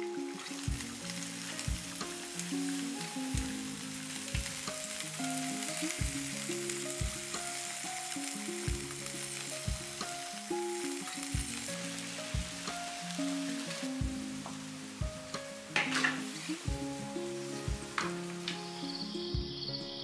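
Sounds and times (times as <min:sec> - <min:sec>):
food sizzling in a wok: 0:00.0 - 0:20.0
slow background music: 0:00.0 - 0:20.0.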